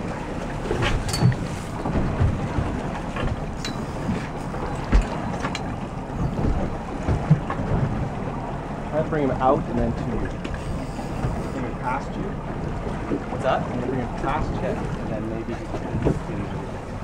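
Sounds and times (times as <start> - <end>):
water moving around hull: 0.0 - 17.0
wind buffeting microphone: 0.0 - 17.0.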